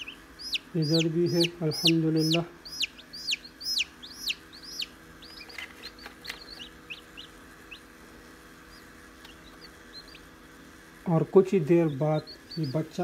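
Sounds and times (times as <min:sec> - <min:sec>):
chick peeping: 0:00.0 - 0:10.4, 0:11.5 - 0:13.0.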